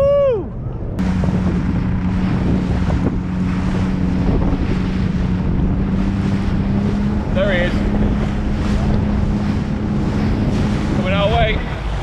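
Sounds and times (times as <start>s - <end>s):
wind buffeting microphone: 0.0s - 12.0s
watercraft engine idling: 0.5s - 12.0s.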